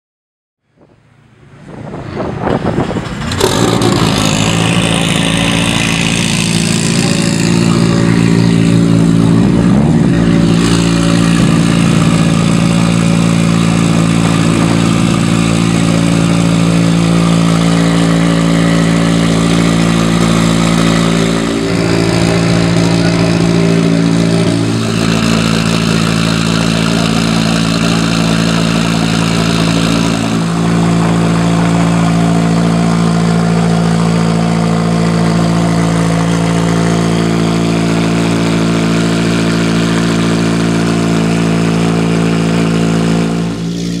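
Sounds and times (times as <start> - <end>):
car engine idling loudly: 1.3 - 44.0.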